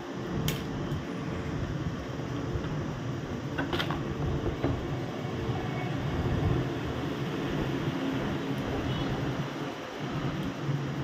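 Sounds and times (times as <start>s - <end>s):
low fan-like room hum: 0.0s - 11.0s.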